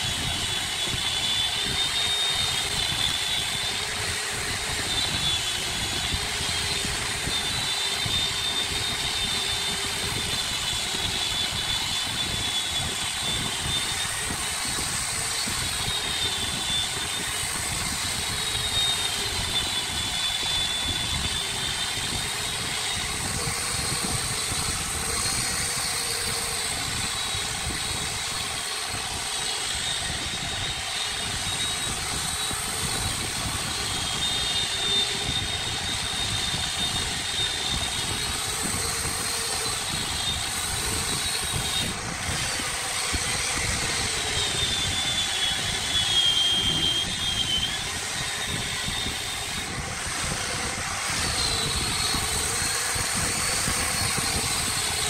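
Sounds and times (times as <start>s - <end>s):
angle grinder sanding wood: 0.0s - 55.0s
lathe humming and rumbling: 0.0s - 55.0s.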